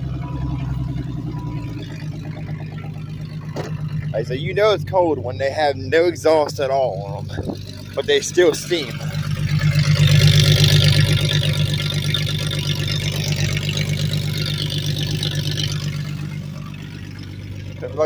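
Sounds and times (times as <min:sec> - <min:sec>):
engine running raw and pulsing: 0:00.0 - 0:18.0.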